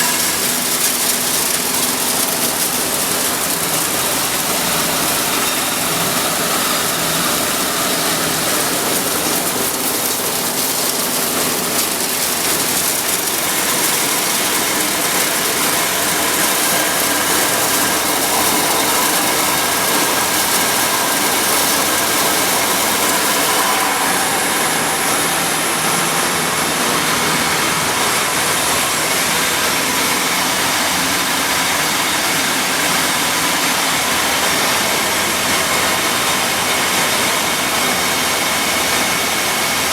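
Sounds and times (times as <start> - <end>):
milling machinery running: 0.0 - 39.9.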